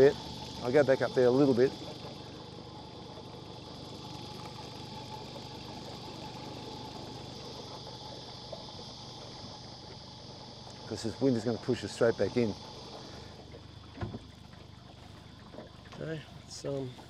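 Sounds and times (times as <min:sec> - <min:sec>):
insects buzzing: 0:00.0 - 0:17.0
small boat motor running: 0:00.0 - 0:17.0.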